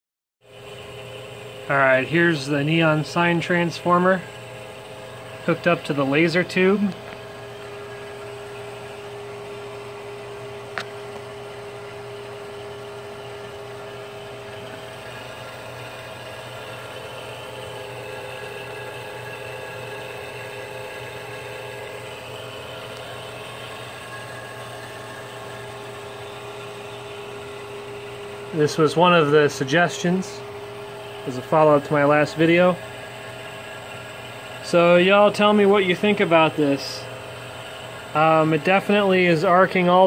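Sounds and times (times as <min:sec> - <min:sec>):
electrical hum and buzz: 0:00.4 - 0:40.0.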